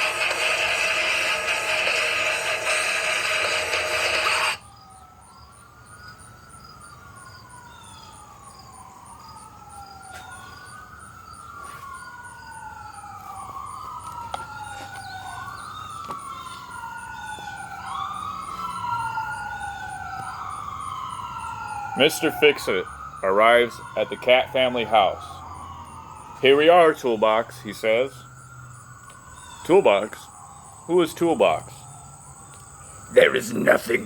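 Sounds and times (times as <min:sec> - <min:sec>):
emergency vehicle siren wailing: 0:00.0 - 0:34.0.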